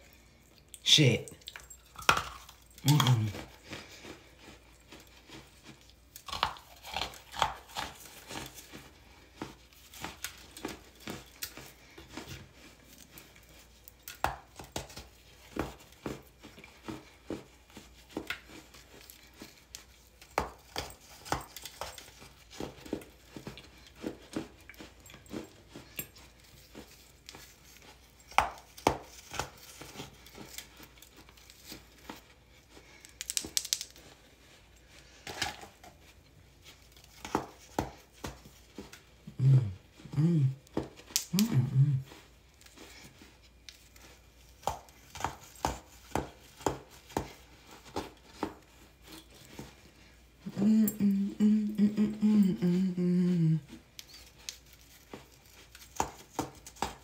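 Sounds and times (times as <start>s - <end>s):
baking soda chunks crunching: 0.0s - 50.5s, 53.7s - 57.0s.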